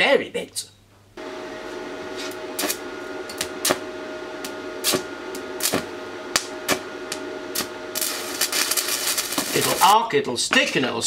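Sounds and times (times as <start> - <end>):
welding arc hissing and crackling: 1.5 - 11.0
welding arc popping and spitting: 2.1 - 11.0.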